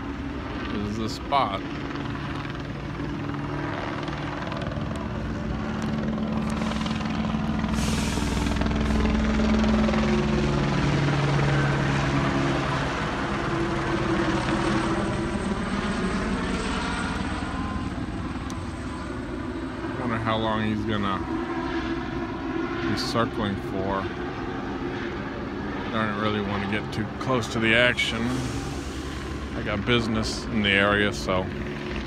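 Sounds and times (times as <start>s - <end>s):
helicopter rotor and engine: 0.0s - 32.0s.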